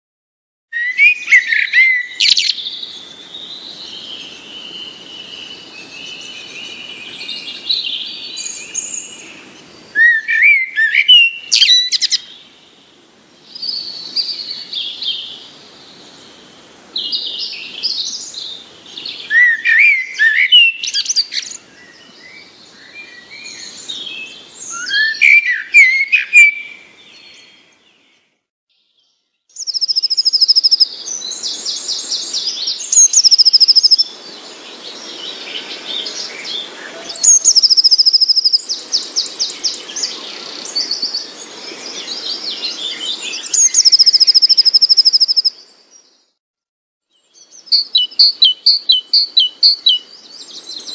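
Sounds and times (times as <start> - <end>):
birds chirping and trilling: 0.7 - 46.4, 47.1 - 50.9.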